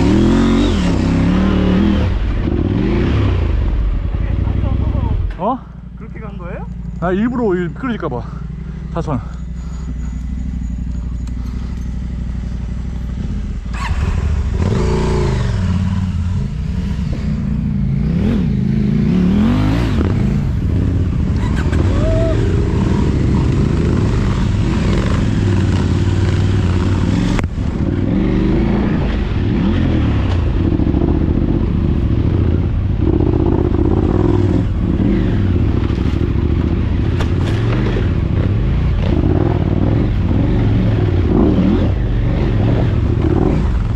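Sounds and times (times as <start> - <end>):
road and wind rumble: 0.0 - 43.9
vehicle engine accelerating: 6.2 - 43.9.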